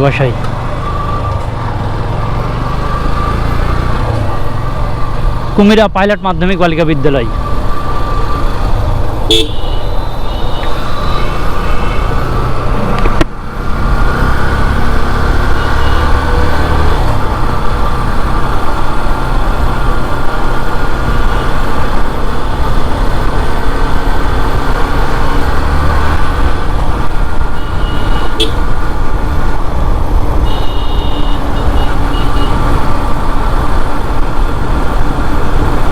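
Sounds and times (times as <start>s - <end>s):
road noise: 0.0s - 35.9s.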